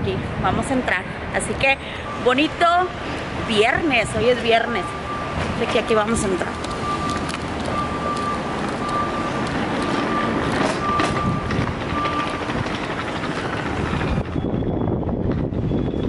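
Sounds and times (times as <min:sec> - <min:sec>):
traffic noise: 0:00.0 - 0:16.0
wind noise: 0:00.0 - 0:16.0
reversing alarm beeping: 0:01.8 - 0:16.0.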